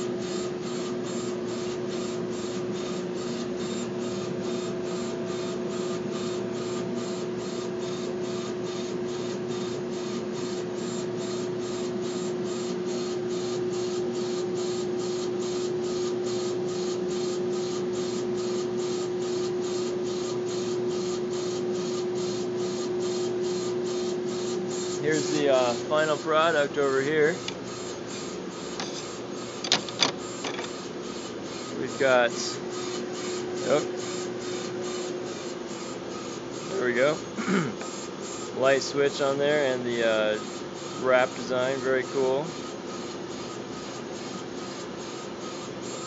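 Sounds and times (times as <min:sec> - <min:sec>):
laser engraver humming: 0:00.0 - 0:46.0.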